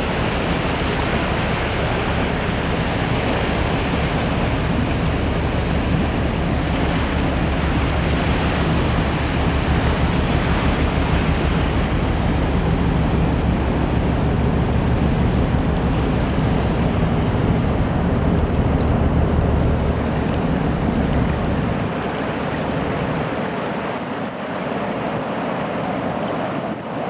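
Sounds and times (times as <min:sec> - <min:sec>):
low steady hum: 0:00.0 - 0:23.4
waves surging on shore: 0:00.0 - 0:27.0
wind buffeting microphone: 0:00.0 - 0:27.0.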